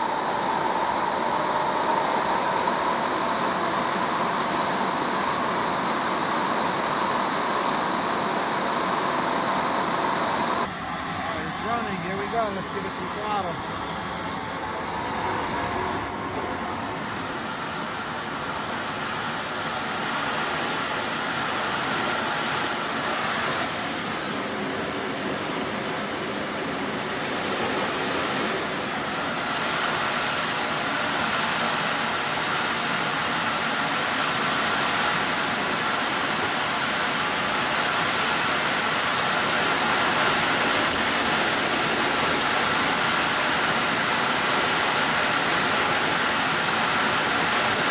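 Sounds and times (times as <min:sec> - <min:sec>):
high turbine whine: 0:00.0 - 0:47.9
turbojet engine roaring: 0:00.0 - 0:47.9.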